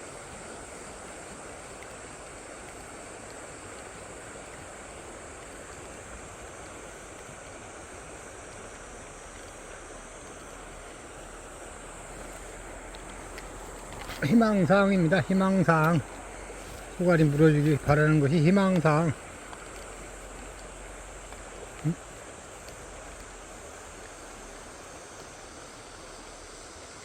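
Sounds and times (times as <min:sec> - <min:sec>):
insects humming: 0:00.0 - 0:27.0
river water rushing: 0:00.0 - 0:27.0.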